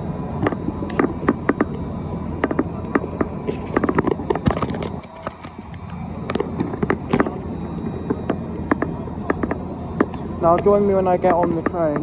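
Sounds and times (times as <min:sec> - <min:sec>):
sharp clicks and knocks: 0:00.4 - 0:01.8, 0:02.4 - 0:07.4, 0:08.0 - 0:12.0.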